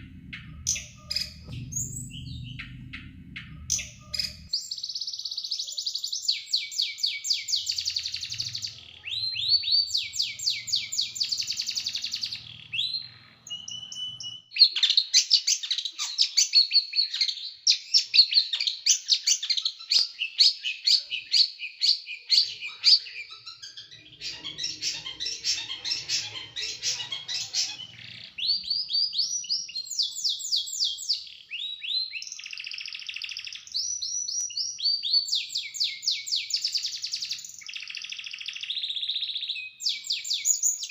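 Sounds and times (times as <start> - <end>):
small songbird singing: 0.0 - 40.9.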